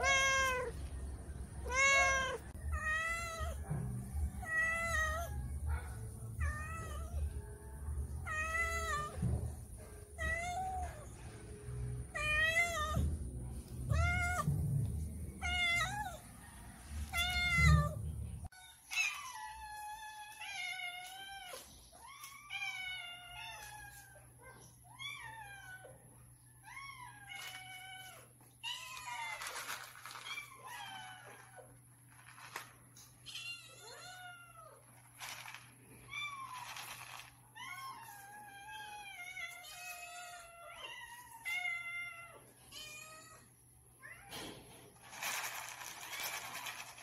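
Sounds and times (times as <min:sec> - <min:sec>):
cats meowing: 0:00.0 - 0:11.3, 0:12.1 - 0:16.4, 0:17.1 - 0:31.9, 0:33.0 - 0:44.7.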